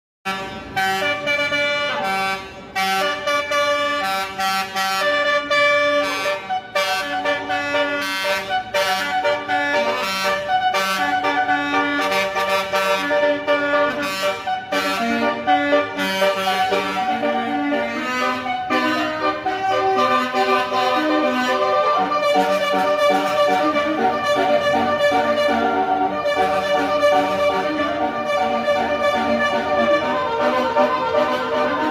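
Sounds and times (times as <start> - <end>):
musical air horn melody: 0.2 - 31.9.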